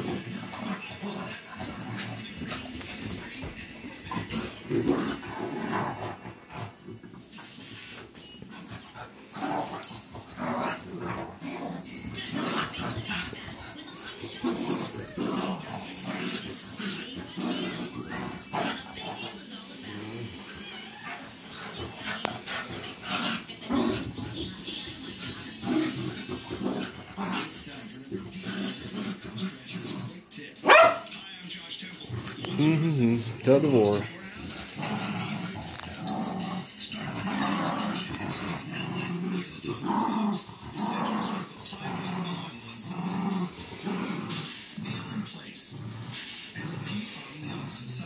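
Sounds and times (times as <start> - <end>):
dogs play fighting vocalizing: 0.0 - 33.4, 34.0 - 48.0.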